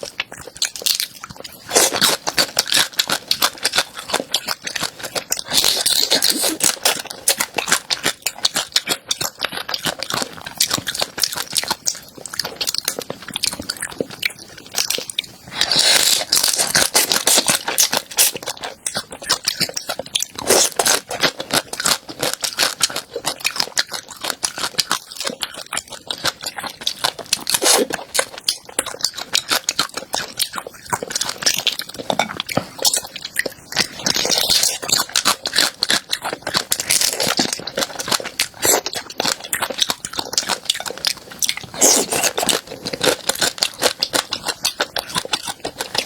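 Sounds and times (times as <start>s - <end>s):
crunchy food chewing: 0.0s - 46.0s.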